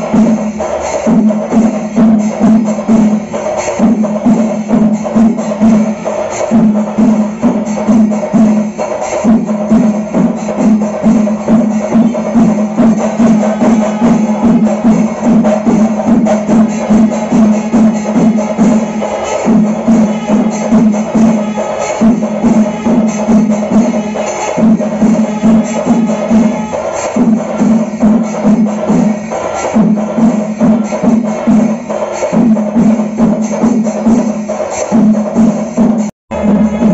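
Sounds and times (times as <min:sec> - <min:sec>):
many drums in fast rhythm: 0:00.0 - 0:36.9.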